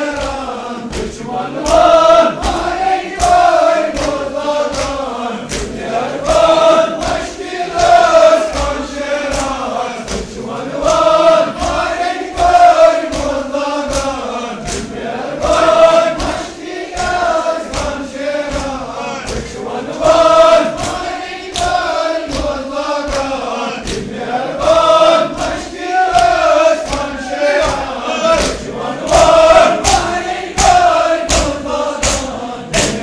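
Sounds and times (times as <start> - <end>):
hands slapping on chests: 0.0 - 33.0
men chanting in unison: 0.0 - 33.0.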